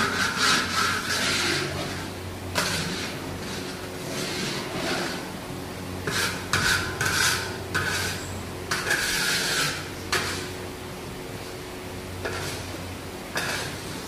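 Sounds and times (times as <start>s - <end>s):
metal spatula scraping wok: 0.0s - 5.3s, 6.0s - 10.6s, 12.2s - 14.0s
steady low hum: 0.0s - 14.0s.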